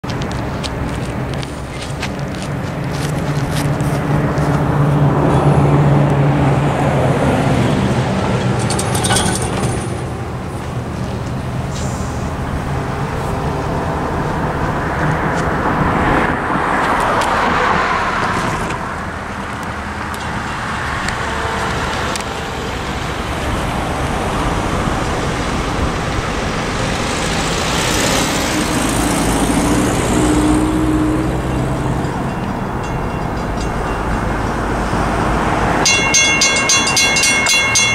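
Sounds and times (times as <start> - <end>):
vehicles driving past: 0.0 - 37.9.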